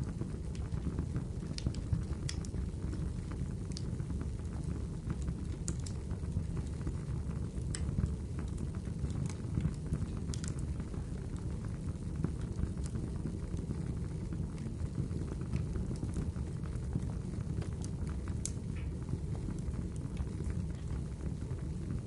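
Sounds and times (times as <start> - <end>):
fire crackling and popping: 0.0 - 22.0
fire low rumble: 0.0 - 22.0.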